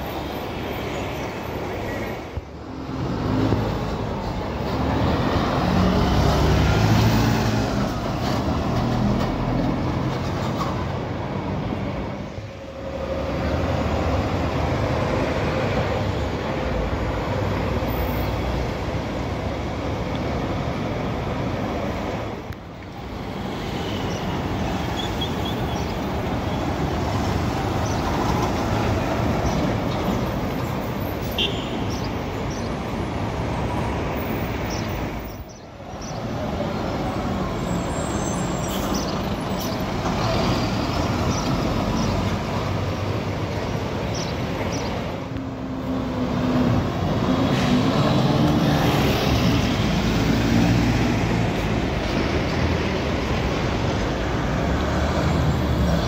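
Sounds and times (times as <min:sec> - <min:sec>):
city street traffic: 0:00.0 - 0:56.0
bus engine passing: 0:02.6 - 0:31.2, 0:32.2 - 0:56.0.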